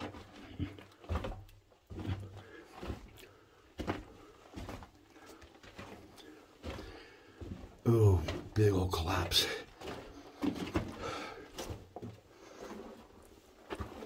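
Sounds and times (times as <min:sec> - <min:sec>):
footsteps crunching on rocky floor: 0:00.0 - 0:14.0.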